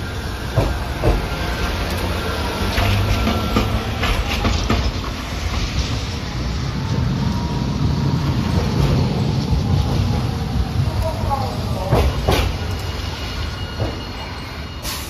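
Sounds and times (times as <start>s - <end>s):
low rumble of approaching tram: 0.0s - 15.0s
tram wheels clacking on rails: 0.0s - 15.0s.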